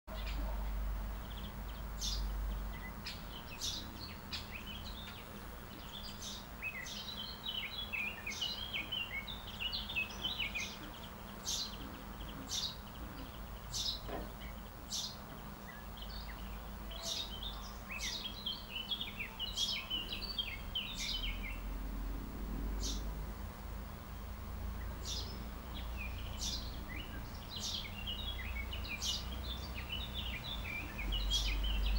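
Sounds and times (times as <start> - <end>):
songbirds calling: 0.1 - 31.9
twittering birdsong: 0.1 - 31.9.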